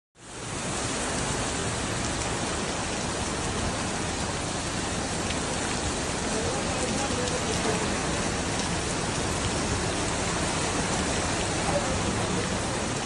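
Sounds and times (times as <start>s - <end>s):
floodwater rushing: 0.2s - 13.0s
heavy rain pouring: 0.2s - 13.0s.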